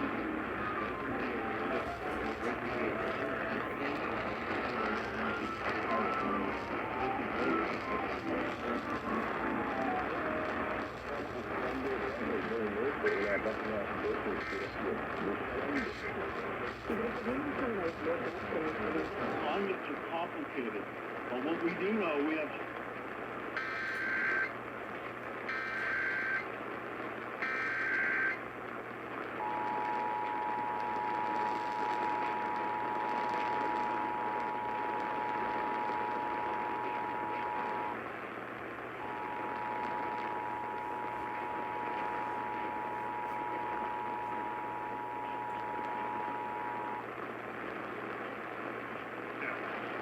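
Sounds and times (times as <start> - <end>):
radio hiss: 0.0 - 50.0.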